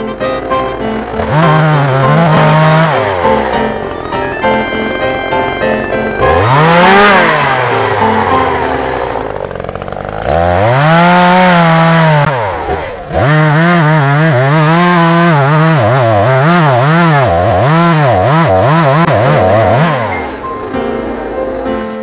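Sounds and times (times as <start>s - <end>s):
chainsaw revving and cutting: 0.0s - 22.0s.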